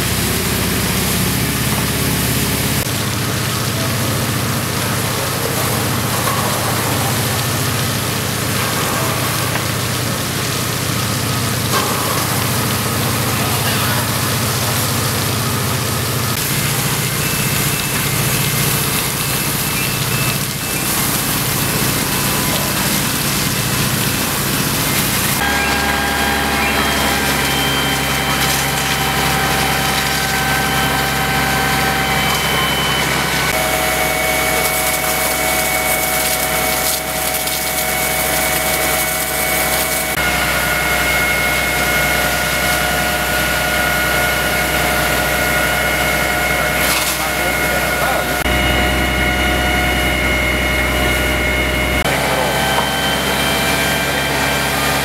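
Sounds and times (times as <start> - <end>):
hiss of water jets: 0.0 - 48.5
pump engines running: 0.0 - 55.0.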